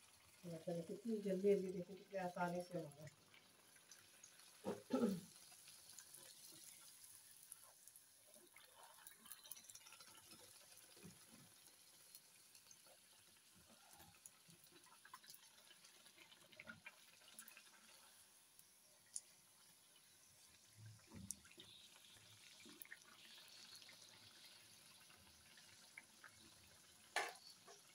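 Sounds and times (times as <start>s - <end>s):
food deep-frying in oil: 0.0s - 27.9s.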